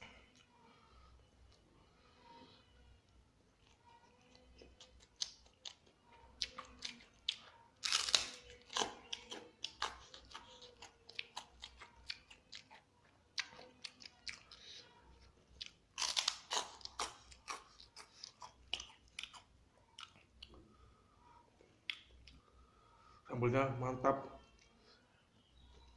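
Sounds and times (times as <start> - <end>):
chewing and crunching food: 0.0 - 23.2.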